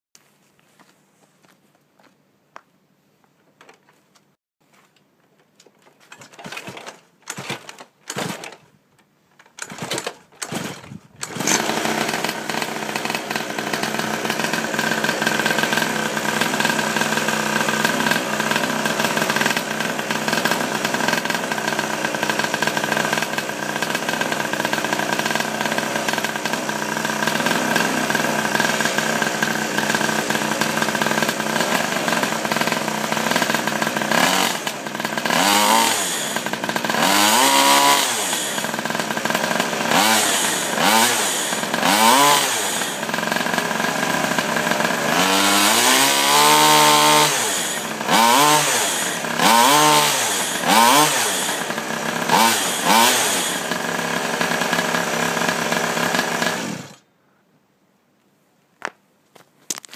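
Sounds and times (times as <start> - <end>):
small two-stroke engine starting: 6.0 - 8.7, 9.4 - 57.0.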